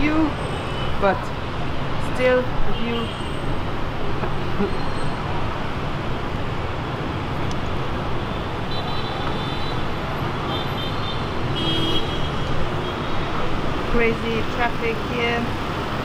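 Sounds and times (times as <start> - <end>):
city street traffic roar: 0.0 - 16.0.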